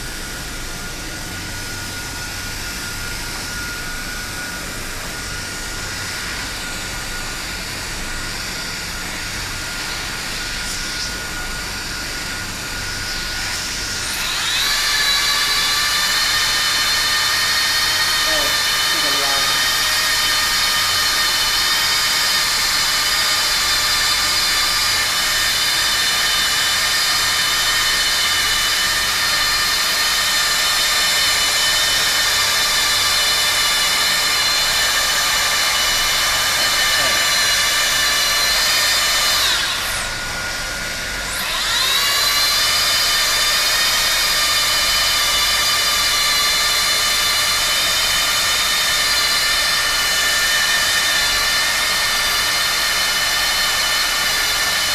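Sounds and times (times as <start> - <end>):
plastic welding machine whine: 0.0 - 54.9.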